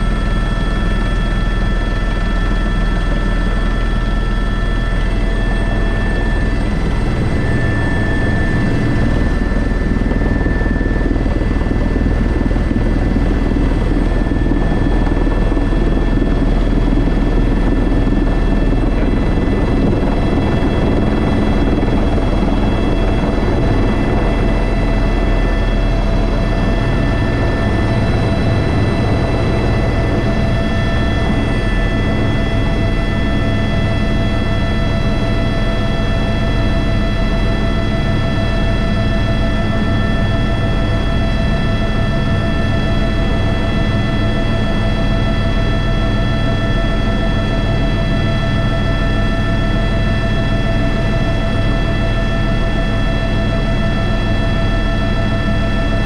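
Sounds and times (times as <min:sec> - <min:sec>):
helicopter rotor drone: 0:00.0 - 0:56.0
high turbine whine: 0:00.0 - 0:56.0.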